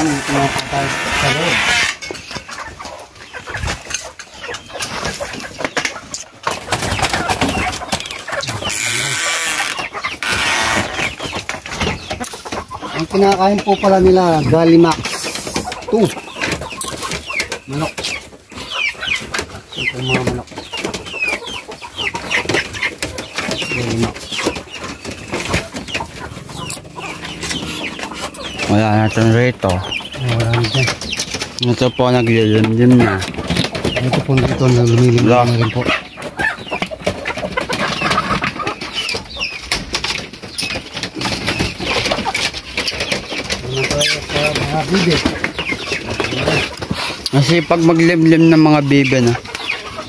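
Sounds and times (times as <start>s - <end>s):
chicks peeping: 0.0s - 50.0s
hen clucking: 0.0s - 50.0s
rustling and knocks of movement: 0.0s - 50.0s.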